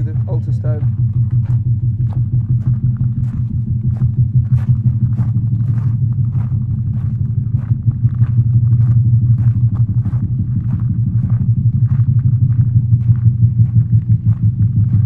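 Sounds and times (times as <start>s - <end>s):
footsteps walking: 0.0s - 15.0s
low hum through a loudspeaker: 0.0s - 15.0s.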